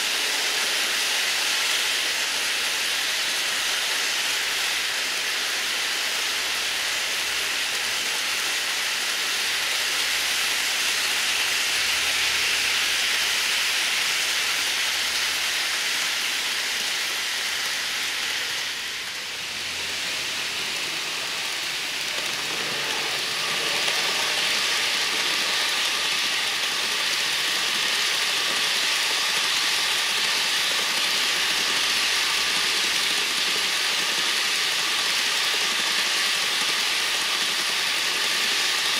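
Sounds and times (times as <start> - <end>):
model train wheels on rail: 0.0 - 38.9.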